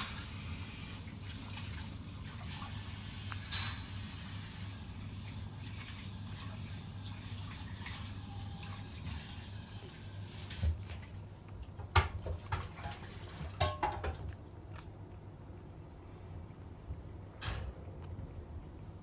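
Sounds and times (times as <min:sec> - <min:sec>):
puppies suckling wet smacking: 0:00.0 - 0:19.0.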